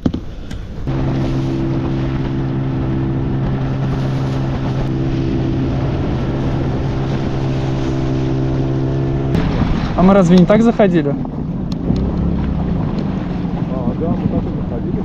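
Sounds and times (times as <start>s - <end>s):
outboard motor humming: 0.0s - 15.0s
wind and water rushing: 0.3s - 15.0s.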